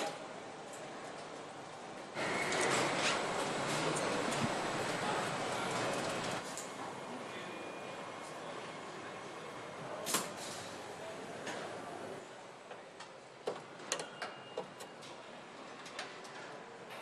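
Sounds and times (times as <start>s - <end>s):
factory hall background noise: 0.0s - 17.0s.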